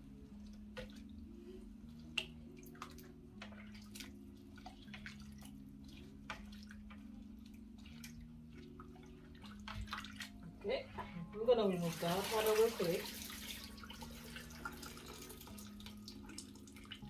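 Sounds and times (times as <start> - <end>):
water sloshing and splashing: 0.0 - 10.8, 11.6 - 17.0.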